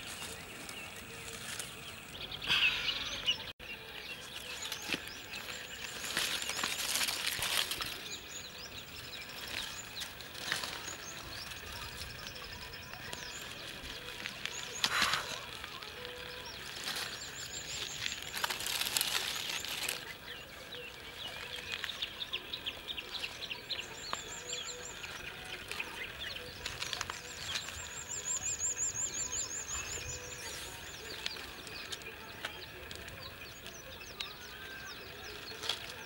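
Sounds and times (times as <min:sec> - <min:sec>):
birds chirping: 0:00.0 - 0:36.0
leaves rustling and crinkling: 0:00.0 - 0:36.0.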